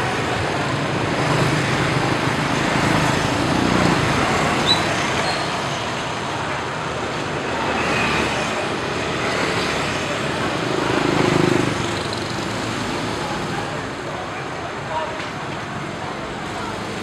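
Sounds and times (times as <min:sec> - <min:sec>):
motorbikes passing slowly: 0:00.0 - 0:17.0.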